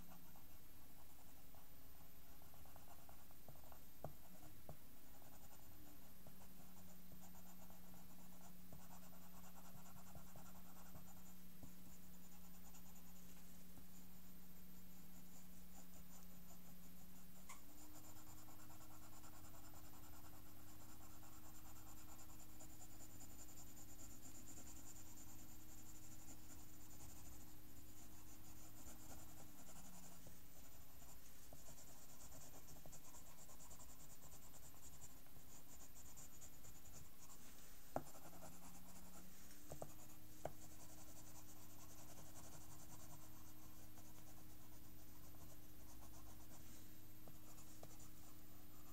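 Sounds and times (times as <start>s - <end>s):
pencil scratching on paper: 0.0s - 13.5s, 15.7s - 48.9s.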